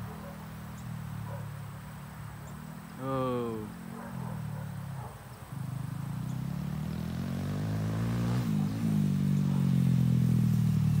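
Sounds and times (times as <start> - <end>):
motorcycle engine approaching: 0.0 - 11.0.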